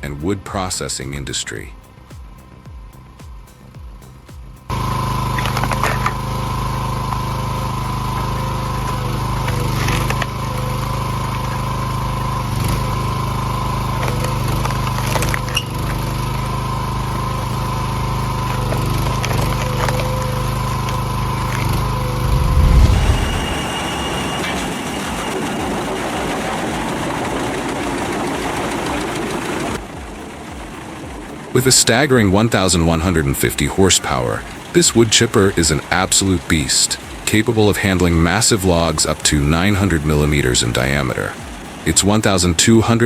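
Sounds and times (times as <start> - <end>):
low machine rumble: 0.0 - 42.2
wood-processing machine running: 3.0 - 42.9.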